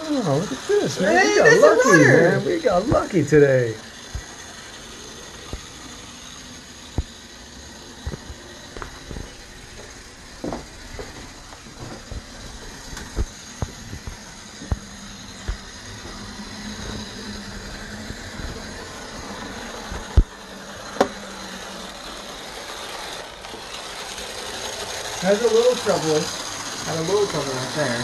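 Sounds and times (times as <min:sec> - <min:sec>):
model locomotive motor whirring: 0:00.0 - 0:28.0.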